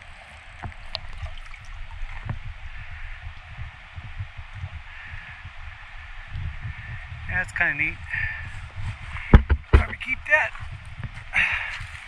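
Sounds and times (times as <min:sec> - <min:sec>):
creek water running over stones: 0:00.0 - 0:12.0
low microphone rumbles: 0:00.0 - 0:12.0.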